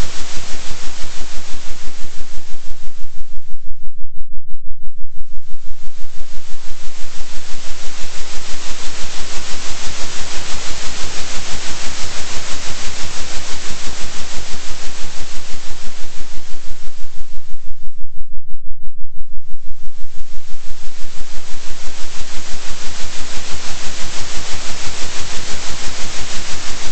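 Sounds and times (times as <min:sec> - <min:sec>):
hiss of noise: 0:00.0 - 0:03.5, 0:05.2 - 0:17.8, 0:19.7 - 0:26.9
pulsing low hum: 0:00.0 - 0:26.9.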